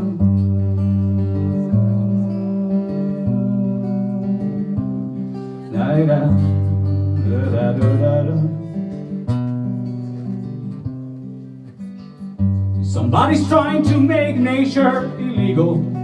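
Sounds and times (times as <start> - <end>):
acoustic guitar strummed: 0.0 - 16.0.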